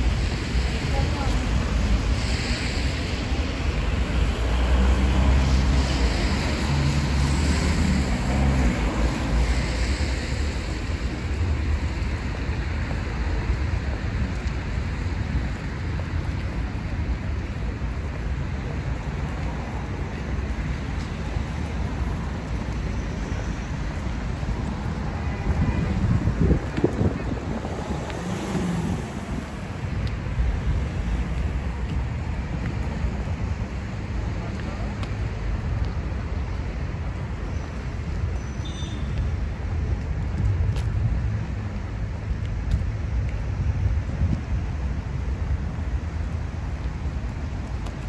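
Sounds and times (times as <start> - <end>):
city street rumble: 0.0 - 48.0.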